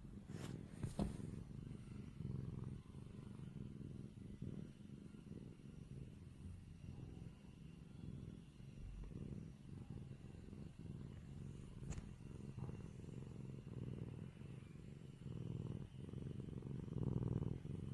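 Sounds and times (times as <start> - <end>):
kitten purring: 0.0 - 17.9.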